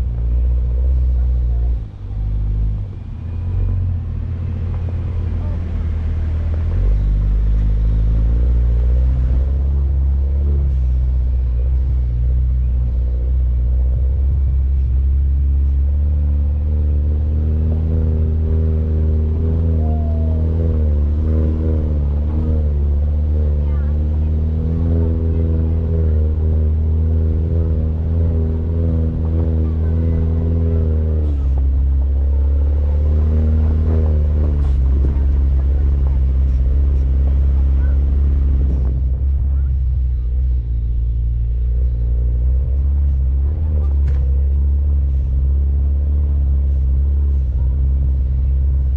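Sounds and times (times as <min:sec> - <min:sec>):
car engine droning: 0:00.0 - 0:48.9.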